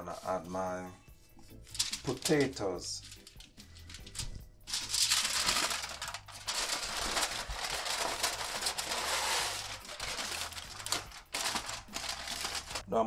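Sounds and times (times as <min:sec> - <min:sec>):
aluminium foil crinkling: 0:01.6 - 0:12.8.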